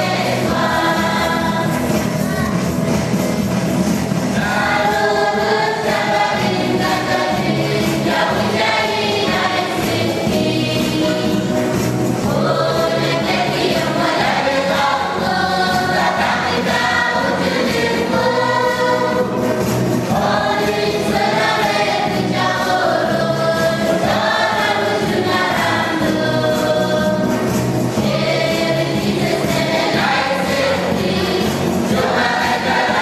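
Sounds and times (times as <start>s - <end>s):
choir of women and girls singing: 0.0s - 3.2s, 4.3s - 33.0s.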